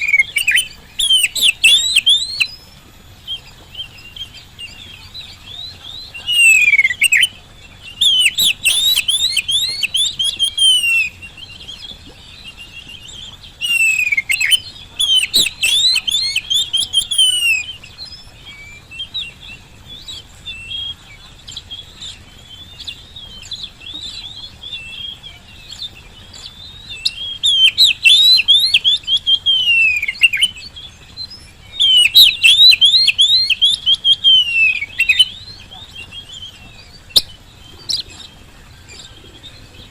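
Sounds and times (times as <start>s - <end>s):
bird chirping: 0.0s - 39.9s
bird singing whistles and trills: 0.0s - 39.9s.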